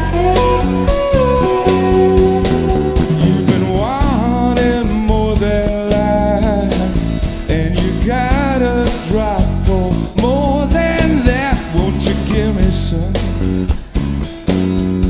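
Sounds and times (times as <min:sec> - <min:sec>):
sliding melodic lead line: 0:00.0 - 0:13.6
live rock band playing: 0:00.0 - 0:15.0.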